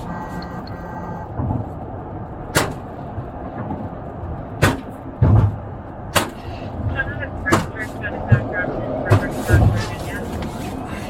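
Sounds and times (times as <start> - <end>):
vehicle running: 0.0 - 11.0.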